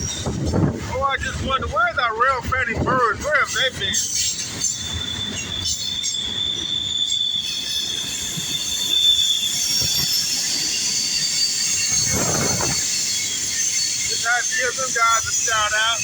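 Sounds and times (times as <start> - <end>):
train wheels squealing on rails: 0.0 - 2.4, 3.0 - 16.0
train cars rumbling past: 0.0 - 16.0.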